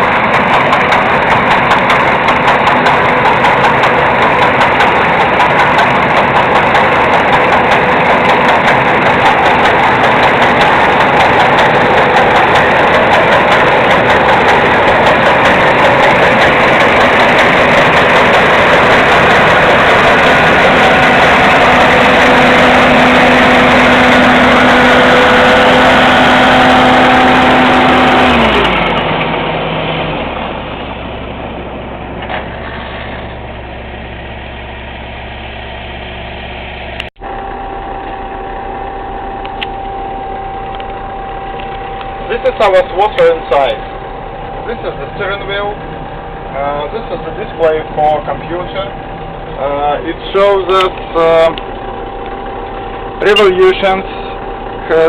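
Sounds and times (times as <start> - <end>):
diesel engine running at high revs: 0.0 - 55.0.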